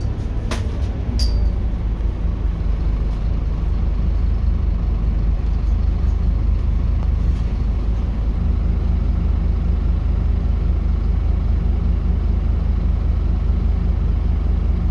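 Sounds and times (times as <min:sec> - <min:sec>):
bus diesel engine drone: 0:00.0 - 0:14.9.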